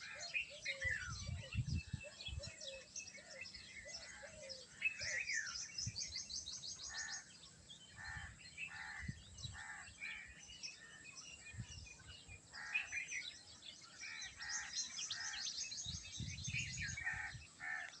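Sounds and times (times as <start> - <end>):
birds calling and chirping: 0.0 - 18.0.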